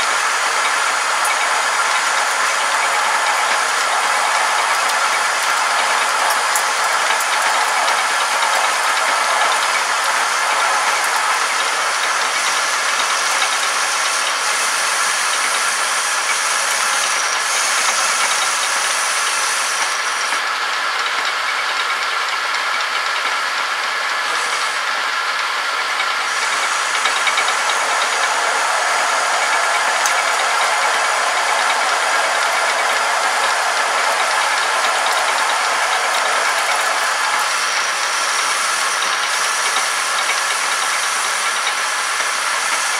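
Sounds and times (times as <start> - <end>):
metal lathe cutting: 0.0 - 21.5, 22.9 - 42.9.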